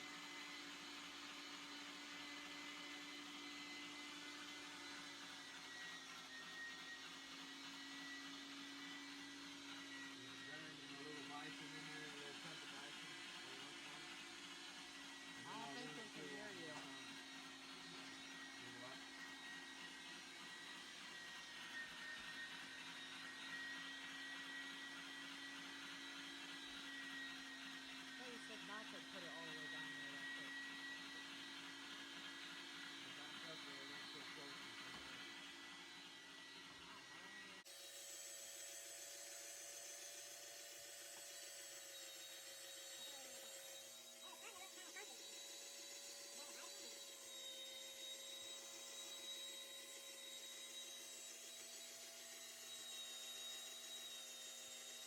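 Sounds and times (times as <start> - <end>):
electric meat grinder motor: 0.0 - 55.0.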